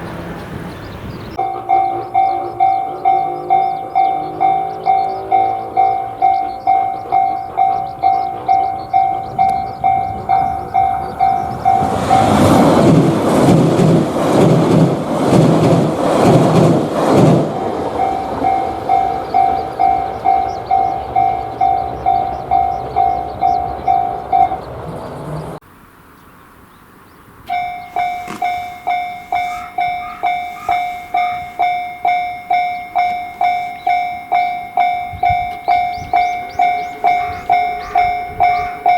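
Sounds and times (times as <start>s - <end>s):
train rumbling over rails: 0.0s - 25.6s, 27.0s - 38.9s
level-crossing warning bell: 1.3s - 14.0s, 16.5s - 25.5s, 27.5s - 38.9s.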